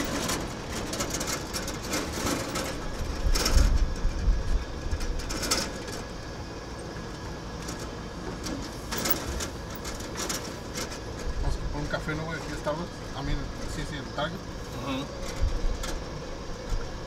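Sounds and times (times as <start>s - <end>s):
cab rattles and clicks: 0.0s - 17.0s
pickup truck engine and road rumble: 0.0s - 17.0s.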